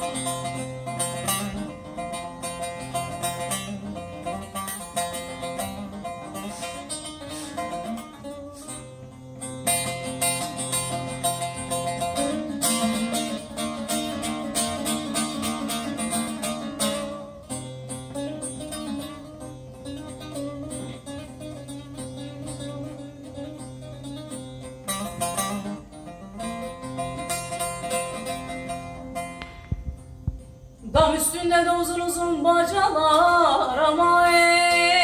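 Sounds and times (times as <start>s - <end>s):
long-necked lute melody: 0.0s - 35.0s.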